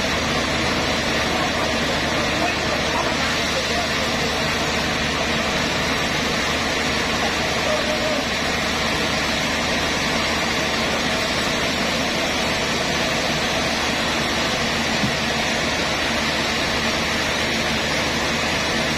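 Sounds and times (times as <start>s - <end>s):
sawmill machinery humming: 0.0s - 18.9s.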